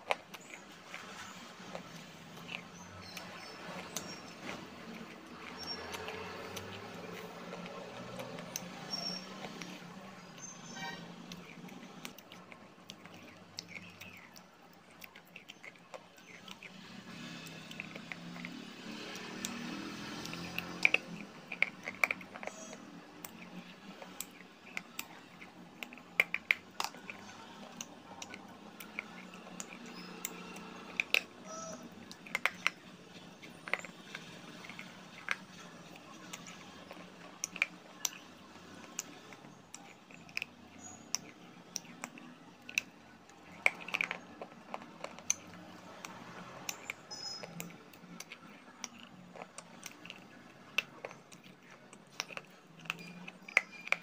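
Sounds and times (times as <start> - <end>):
clay ball crunching between teeth: 0.0 - 54.0.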